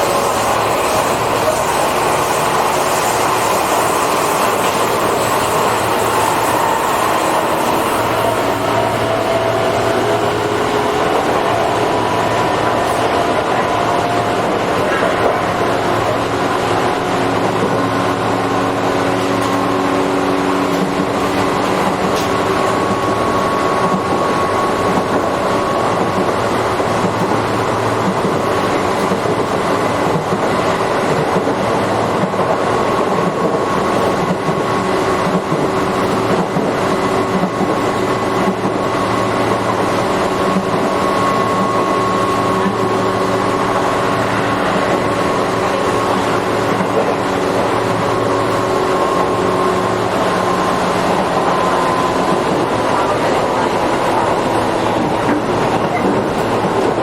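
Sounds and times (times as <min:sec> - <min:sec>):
electric train motor hum and whine: 0:00.0 - 0:57.0
wheel-on-rail rumble: 0:00.0 - 0:57.0.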